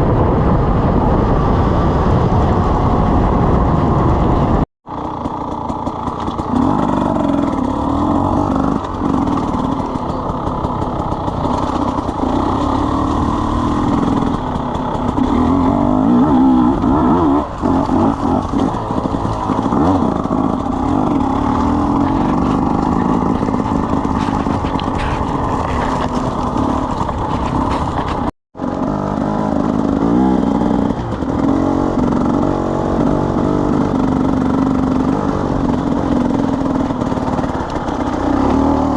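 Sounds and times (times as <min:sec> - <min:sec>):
two-stroke motorcycle engine revving: 0:03.5 - 0:38.9.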